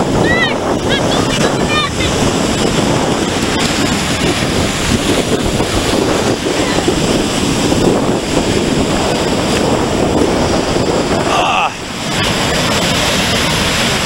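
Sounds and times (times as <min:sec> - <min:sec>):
surf washing over sand: 0:00.0 - 0:14.0
wind buffeting microphone: 0:00.0 - 0:14.0.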